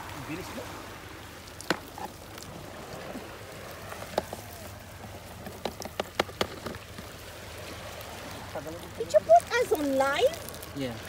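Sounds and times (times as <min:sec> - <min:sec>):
sea washing: 0:00.0 - 0:11.0
fish slapping in a bucket: 0:01.5 - 0:10.8.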